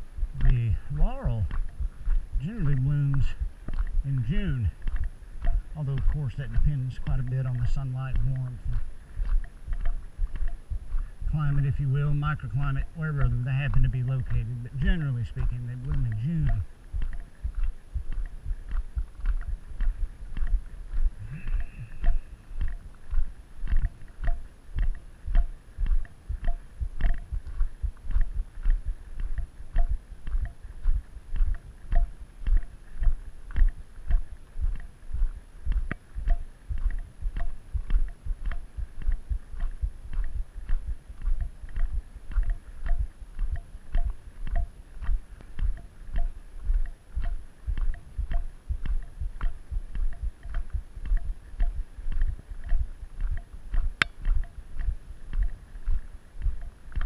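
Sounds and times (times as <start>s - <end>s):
footsteps on gravel: 0.2s - 57.0s.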